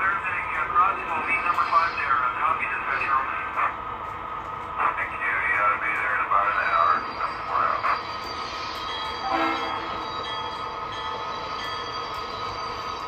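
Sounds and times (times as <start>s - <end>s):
model train diesel engine rumble: 0.0s - 13.0s.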